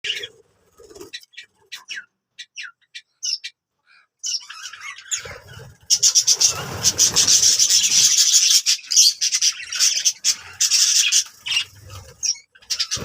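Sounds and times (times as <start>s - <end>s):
budgerigars chirping and squawking: 0.0s - 13.0s.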